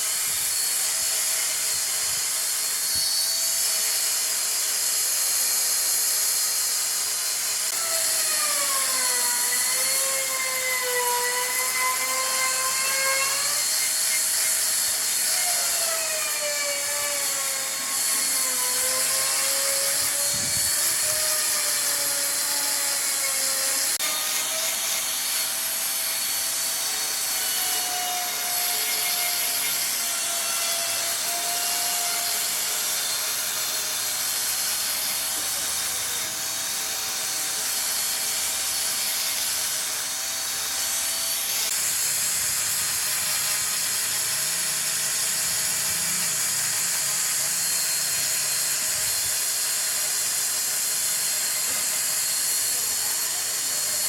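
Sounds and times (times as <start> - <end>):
wood lathe cutting wood: 0.0 - 54.0.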